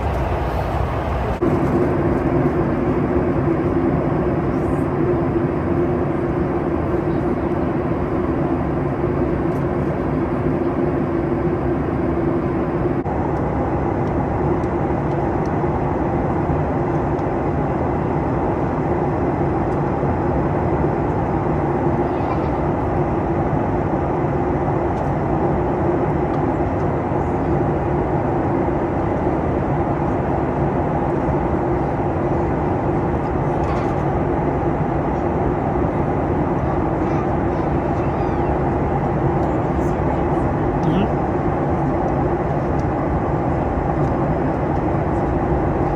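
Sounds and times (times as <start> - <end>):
airflow and engine noise: 0.0 - 45.9
airplane cabin drone: 0.0 - 45.9.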